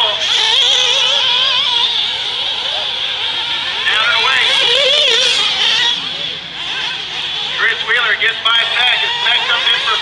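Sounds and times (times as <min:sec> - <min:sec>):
rc buggy engines screaming: 0:00.0 - 0:10.0.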